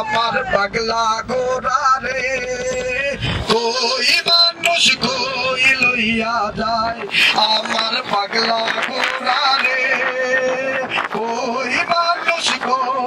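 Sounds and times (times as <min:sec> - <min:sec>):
man singing through loudspeaker: 0:00.0 - 0:13.0.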